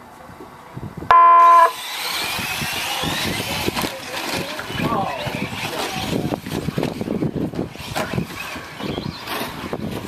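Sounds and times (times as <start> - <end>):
wind noise on microphone: 0.3 - 10.0
electric rc truck motors: 1.1 - 10.0
tyres churning dirt: 1.7 - 10.0.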